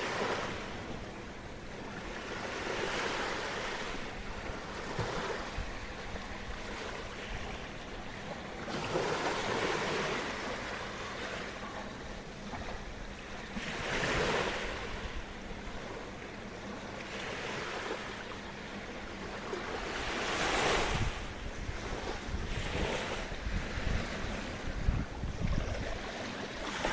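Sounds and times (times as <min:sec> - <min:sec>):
hiss of surf: 0:00.0 - 0:26.9
small waves washing ashore: 0:00.0 - 0:26.9.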